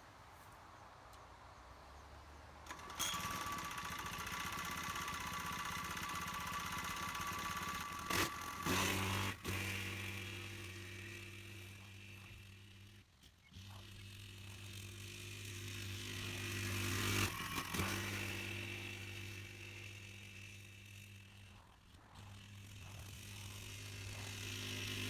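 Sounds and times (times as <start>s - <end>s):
small petrol engine running: 2.6s - 25.0s.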